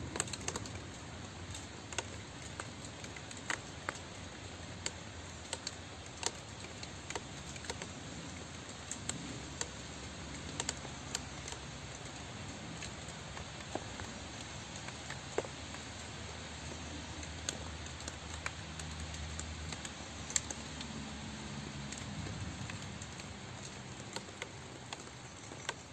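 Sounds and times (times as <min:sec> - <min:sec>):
raindrops ticking on a surface: 0:00.0 - 0:25.9
steady rain falling: 0:00.0 - 0:25.9.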